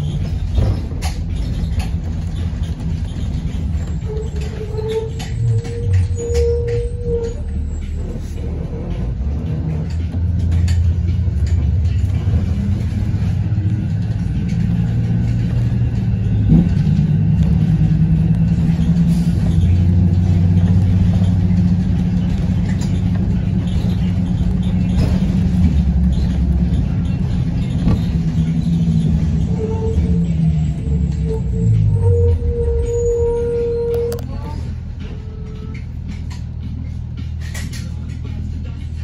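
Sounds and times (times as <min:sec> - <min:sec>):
bus engine droning: 0:00.0 - 0:39.0.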